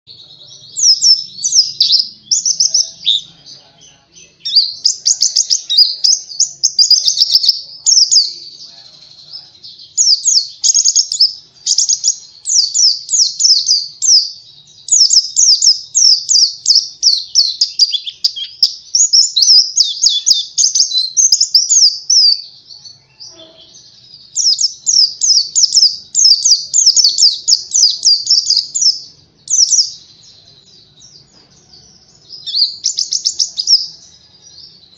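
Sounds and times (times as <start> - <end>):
bird twittering song: 0.1 - 34.9.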